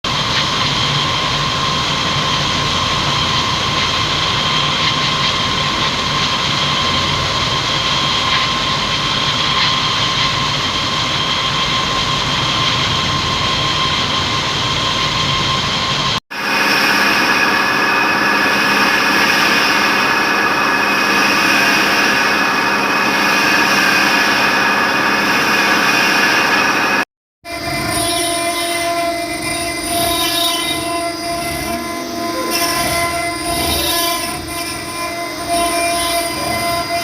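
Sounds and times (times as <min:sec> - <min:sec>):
cnc machine whining drone: 0:00.1 - 0:37.0.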